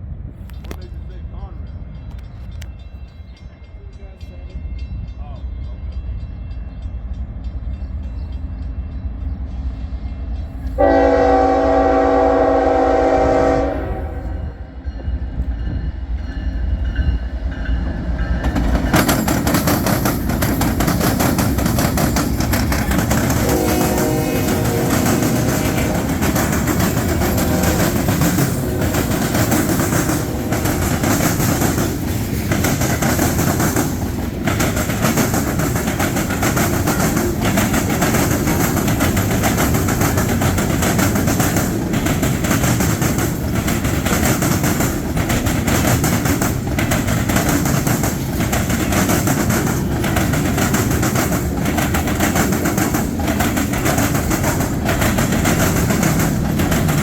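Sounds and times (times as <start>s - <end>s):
steel wheels on rails: 5.6s - 57.0s.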